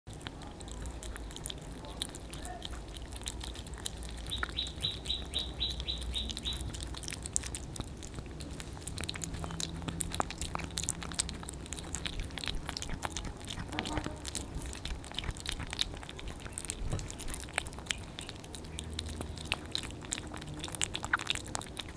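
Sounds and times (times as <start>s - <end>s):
kittens chewing and licking: 0.0s - 21.9s.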